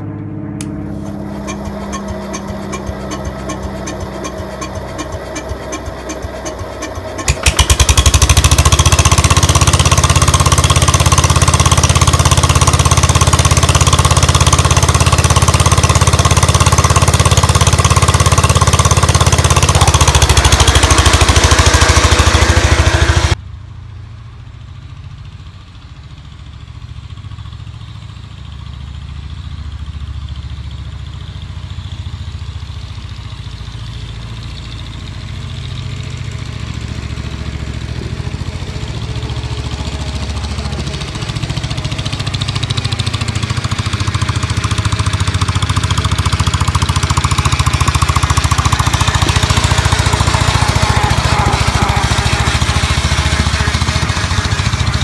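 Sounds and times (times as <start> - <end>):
garden tractor engine running: 0.0 - 55.0.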